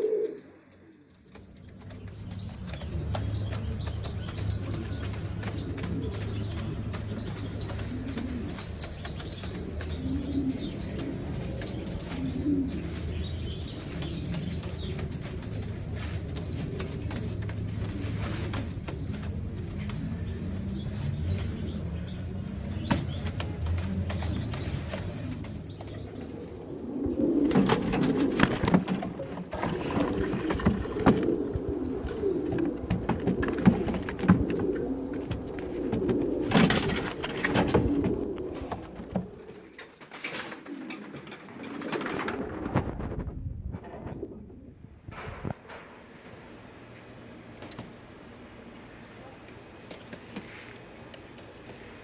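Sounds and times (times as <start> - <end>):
steady low hum: 0.0 - 39.9, 42.3 - 52.0
pigeons cooing: 0.0 - 45.6.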